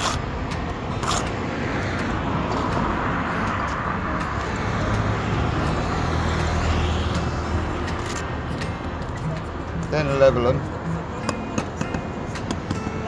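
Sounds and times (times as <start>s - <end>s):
traffic passing: 0.0s - 13.0s.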